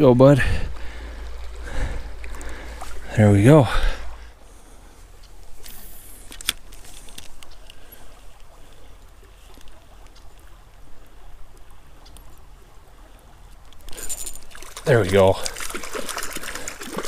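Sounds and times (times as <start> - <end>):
stream water trickling: 0.0 - 17.0.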